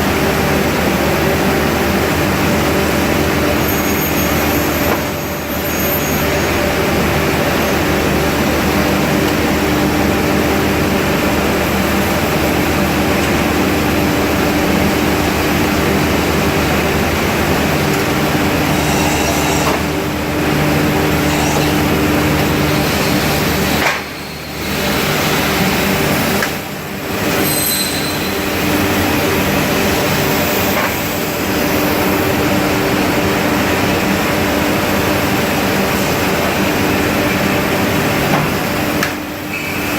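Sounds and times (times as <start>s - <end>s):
industrial machinery humming: 0.0s - 39.9s.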